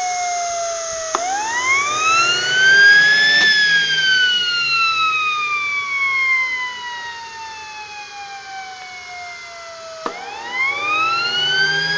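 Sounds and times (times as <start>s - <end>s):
jet turbine whine: 0.0s - 11.9s.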